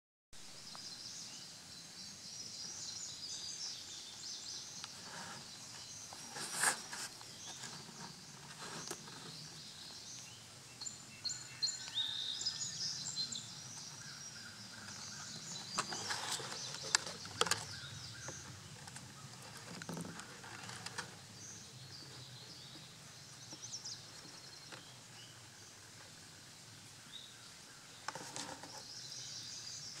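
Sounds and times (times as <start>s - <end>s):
small birds chirping: 0.5s - 30.0s.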